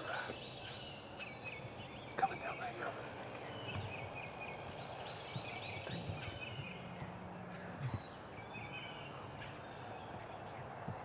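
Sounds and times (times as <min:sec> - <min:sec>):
small birds chirping and trilling: 0:00.0 - 0:11.0.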